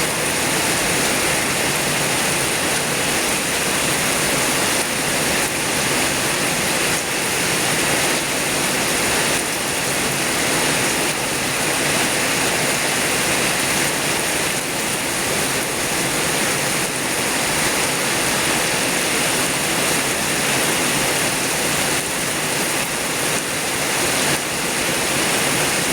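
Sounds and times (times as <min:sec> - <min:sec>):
very heavy rain: 0:00.0 - 0:25.9.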